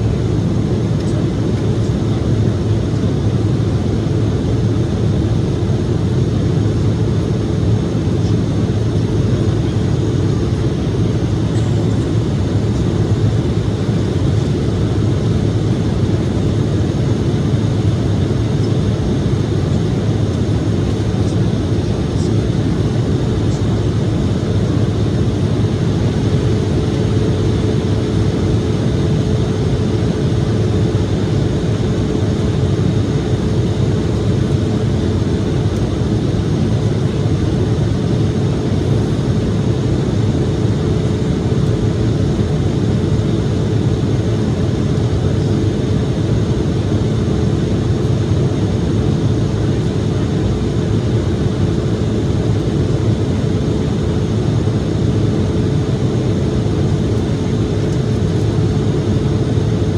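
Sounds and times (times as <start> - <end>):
airliner cabin airflow rush: 0.0 - 59.9
steady hum: 0.0 - 59.9
turbofan engines: 0.0 - 59.9.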